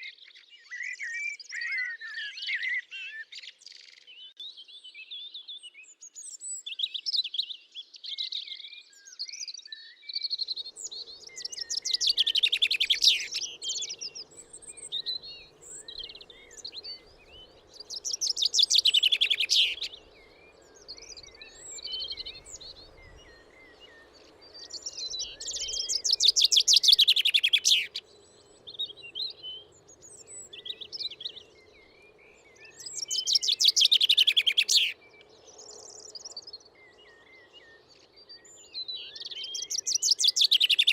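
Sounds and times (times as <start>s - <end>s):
bird trilled song: 0.0s - 40.9s
birds chirping softly: 0.0s - 40.9s.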